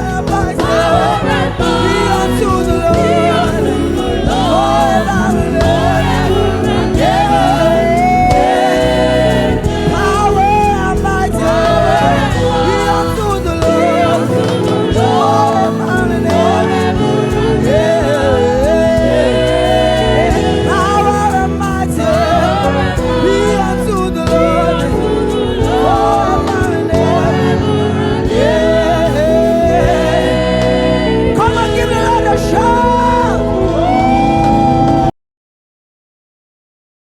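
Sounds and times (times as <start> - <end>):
gospel group singing in harmony: 0.0 - 35.1
live band playing: 0.0 - 35.1.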